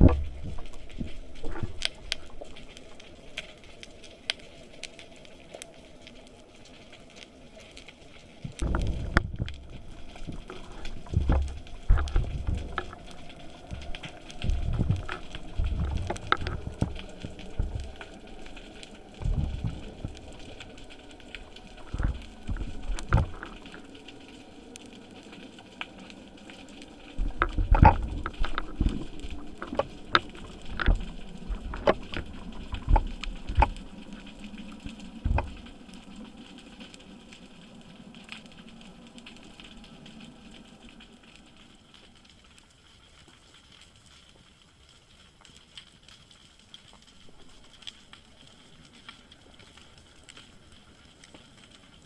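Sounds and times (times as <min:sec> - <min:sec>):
underwater crackling hiss: 0:00.0 - 0:52.0.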